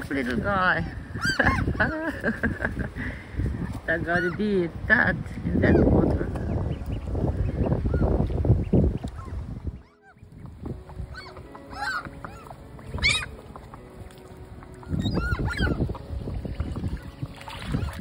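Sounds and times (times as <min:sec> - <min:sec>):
wind rumbling on microphone: 0:00.0 - 0:18.0
seagulls calling: 0:00.6 - 0:02.5, 0:03.9 - 0:04.8, 0:05.6 - 0:18.0.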